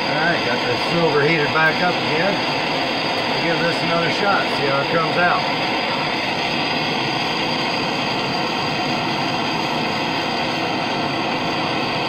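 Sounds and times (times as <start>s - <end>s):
hand torch flame hissing: 0.0s - 12.0s.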